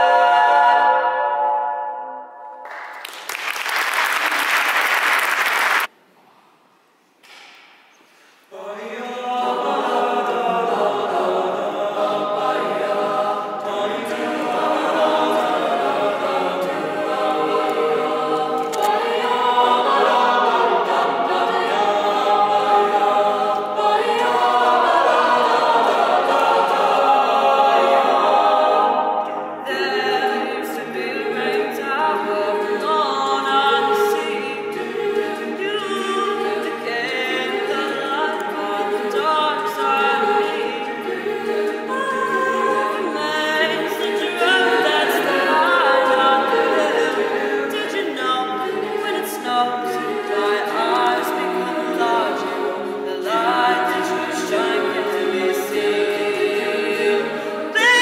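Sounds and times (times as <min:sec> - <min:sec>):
choir singing a cappella: 0:00.0 - 0:02.3, 0:08.5 - 0:58.0.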